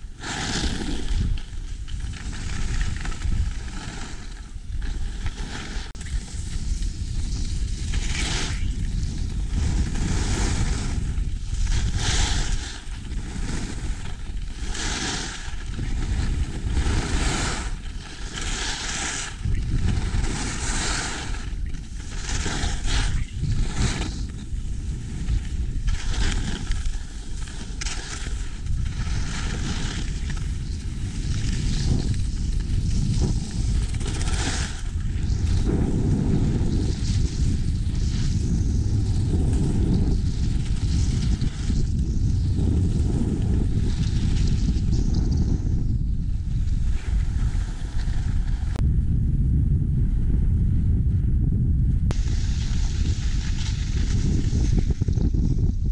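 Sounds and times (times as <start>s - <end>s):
skis scraping over snow: 0.0s - 48.8s, 52.1s - 55.8s
wind on camera microphone: 0.0s - 55.9s.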